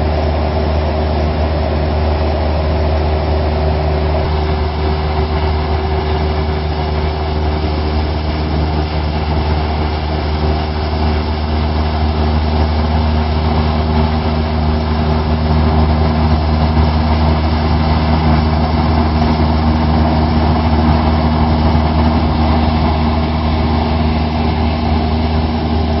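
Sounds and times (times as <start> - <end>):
airplane engine drone: 0.0 - 26.0
constant rushing noise: 0.0 - 26.0.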